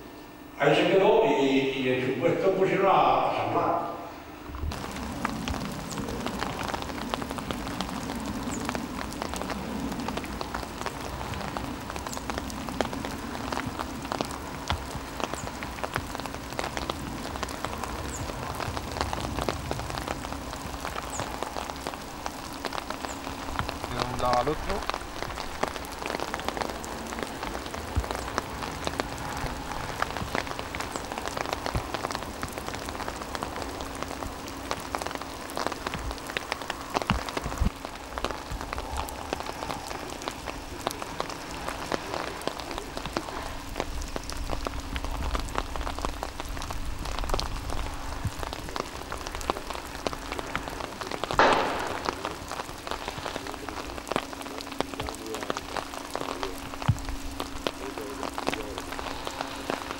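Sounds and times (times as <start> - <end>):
faint steady hum: 0.0 - 59.9
steady rainfall: 0.0 - 59.9.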